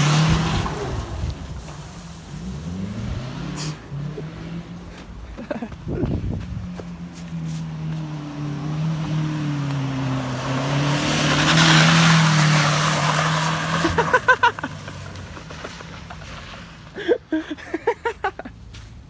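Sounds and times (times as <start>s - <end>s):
tyre and terrain noise: 0.0s - 19.0s.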